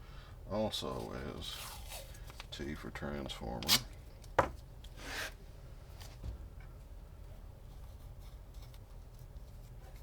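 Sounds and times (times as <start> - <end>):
faint handling sounds: 0.7 - 10.0.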